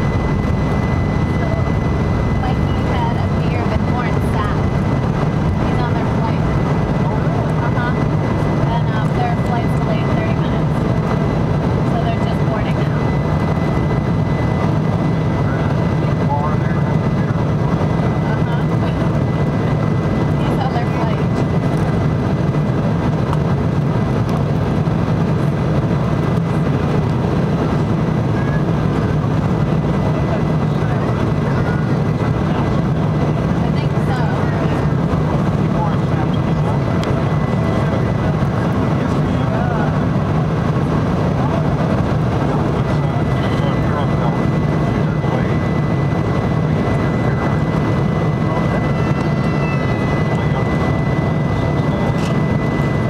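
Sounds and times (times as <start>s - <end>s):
airliner cabin drone: 0.0s - 53.0s
jet engines and rushing air roar: 0.0s - 53.0s.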